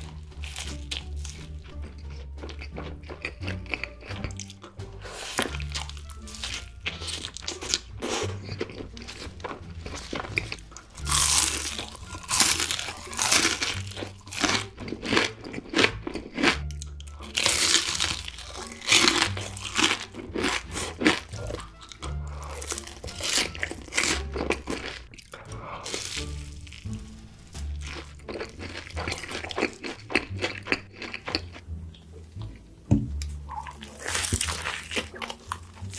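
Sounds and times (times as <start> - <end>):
crunchy food chewing: 0.0 - 32.6, 33.2 - 35.9
background music with bass line: 0.0 - 35.9.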